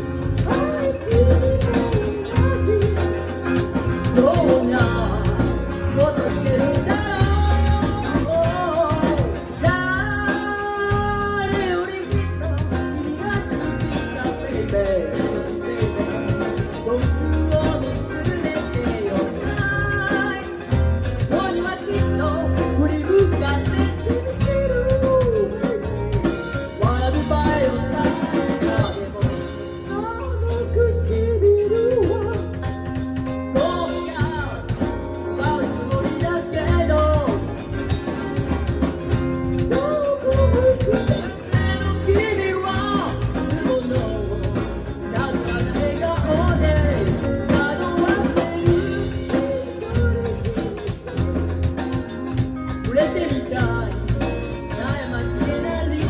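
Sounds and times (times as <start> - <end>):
bass guitar: 0.0 - 56.0
bending lead melody: 0.0 - 56.0
drum kit: 0.0 - 56.0
guitar playing: 0.0 - 56.0.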